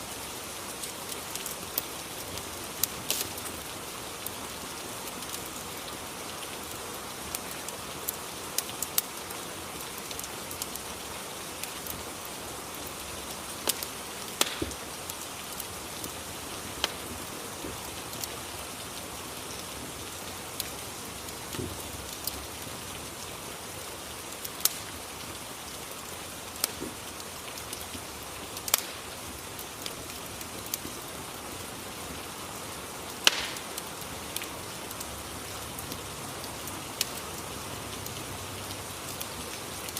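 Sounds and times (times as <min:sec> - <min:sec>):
fireplace crackling: 0:00.0 - 0:39.9
rain hissing: 0:00.0 - 0:39.9.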